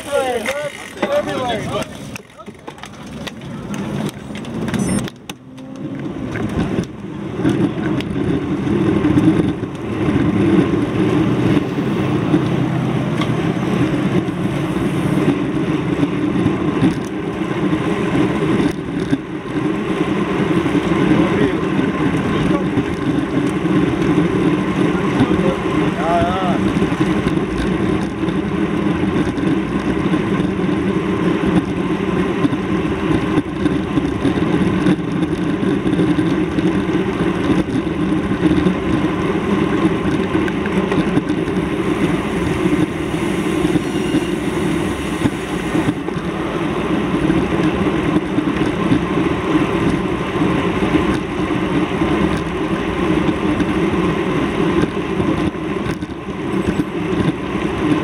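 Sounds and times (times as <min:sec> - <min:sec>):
vehicle noise: 0:00.0 - 0:58.0.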